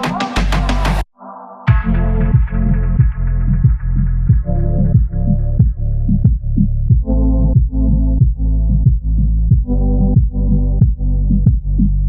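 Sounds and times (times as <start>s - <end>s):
electronic music with bass: 0.0s - 1.1s, 1.7s - 12.0s.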